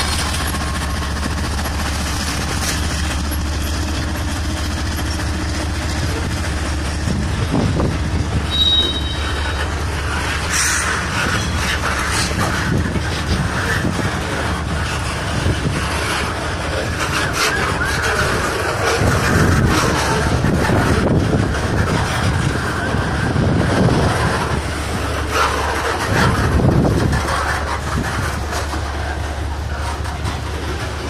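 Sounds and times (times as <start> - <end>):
wind buffeting microphone: 0.0 - 8.7, 9.4 - 29.1
freight train wheels rumbling: 0.0 - 31.0
train clanks: 0.0 - 31.0.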